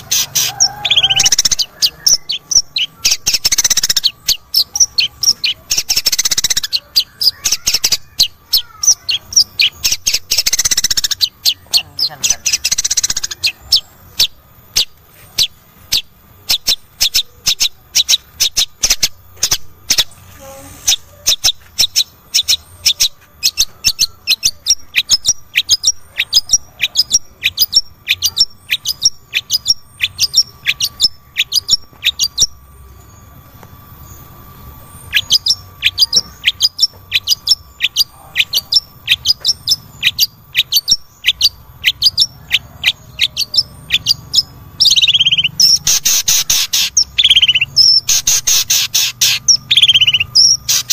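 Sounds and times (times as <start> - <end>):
bird calling sharp notes: 0.0 - 33.2, 34.0 - 50.9.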